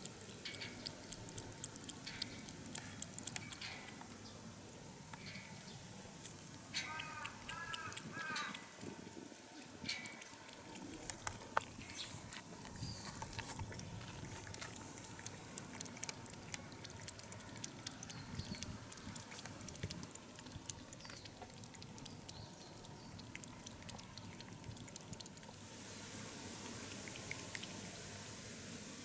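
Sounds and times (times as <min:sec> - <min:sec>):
cats lapping water: 0:00.0 - 0:28.3.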